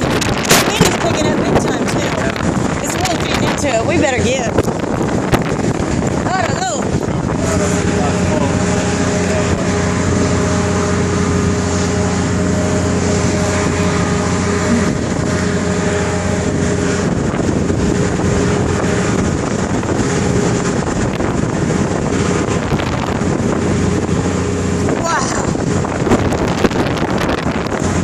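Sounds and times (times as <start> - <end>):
steady low hum: 0.0 - 28.0
strong wind on microphone: 0.0 - 28.0.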